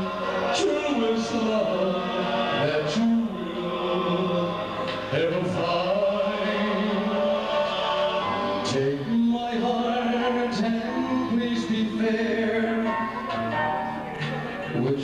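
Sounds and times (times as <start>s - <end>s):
man singing into microphone: 0.0s - 7.4s, 8.6s - 13.2s, 14.7s - 15.0s
backing music: 0.0s - 15.0s.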